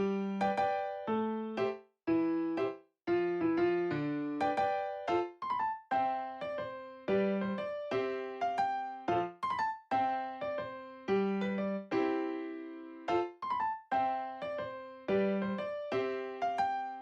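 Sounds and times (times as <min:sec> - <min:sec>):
electric piano tune: 0:00.0 - 0:17.0.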